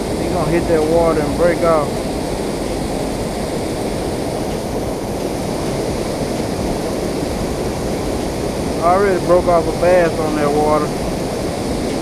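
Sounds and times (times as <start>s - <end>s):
churning whitewater: 0.0s - 12.0s
water pouring over spillway: 0.0s - 12.0s.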